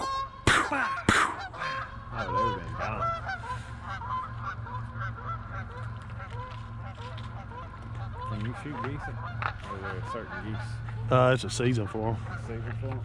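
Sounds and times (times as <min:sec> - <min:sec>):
geese honking: 0:00.0 - 0:13.0
steady low hum: 0:00.0 - 0:13.0.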